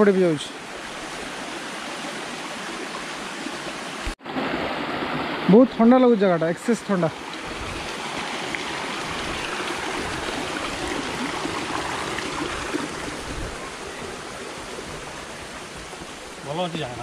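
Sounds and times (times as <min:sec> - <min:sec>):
stream water running over rocks: 0:00.0 - 0:17.0.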